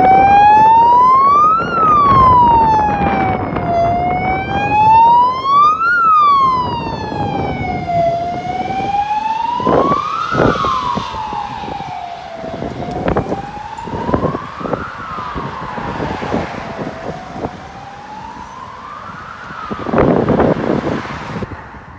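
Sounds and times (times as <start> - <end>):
ambulance siren wailing: 0.0 - 21.6
car passing with road noise: 0.0 - 21.9.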